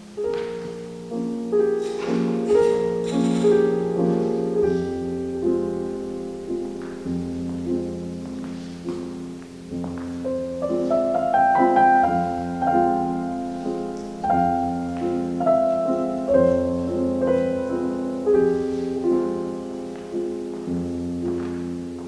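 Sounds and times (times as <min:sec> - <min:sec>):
slow solo piano music: 0:00.0 - 0:22.0.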